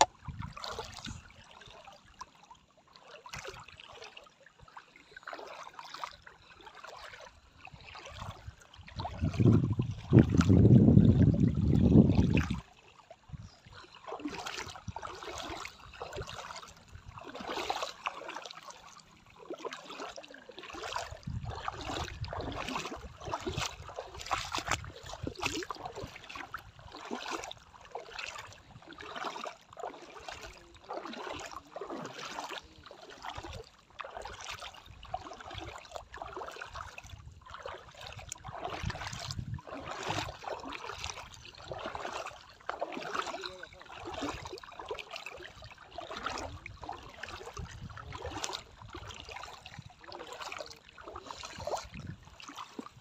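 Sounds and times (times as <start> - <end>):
feet splashing in shallow water: 0.0 - 53.0.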